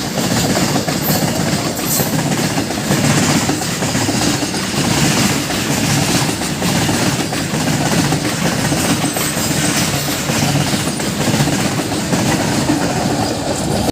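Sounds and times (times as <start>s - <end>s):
clattering over rail joints: 0.0s - 13.9s
train wheels rumbling on rails: 0.0s - 13.9s.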